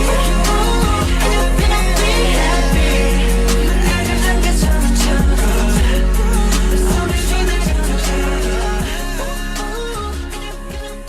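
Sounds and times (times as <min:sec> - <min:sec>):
pop music with singing: 0:00.0 - 0:11.0.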